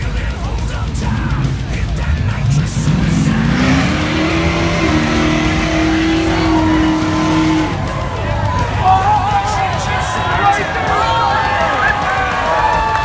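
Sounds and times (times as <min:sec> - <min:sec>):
car engine revving: 0:00.0 - 0:10.9.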